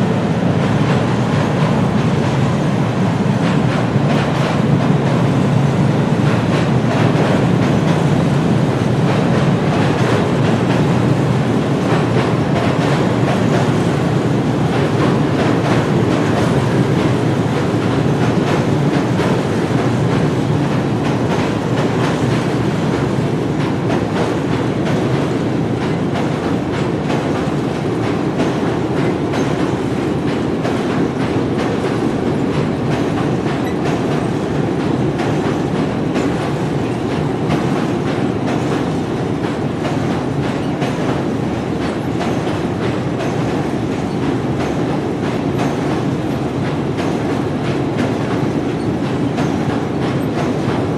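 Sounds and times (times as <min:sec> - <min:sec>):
train rumbling on track: 0:00.0 - 0:50.9.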